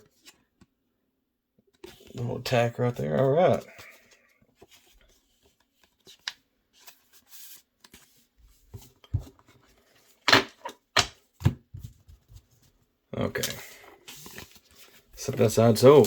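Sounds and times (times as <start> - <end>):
cards and packaging rustling: 1.7 - 16.0.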